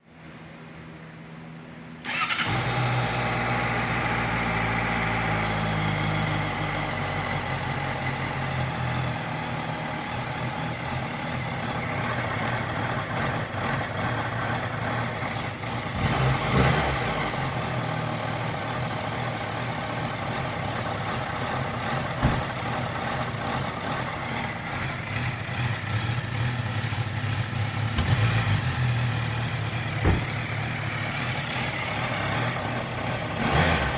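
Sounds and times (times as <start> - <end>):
motorcycle engine starting and idling: 2.0 - 33.9.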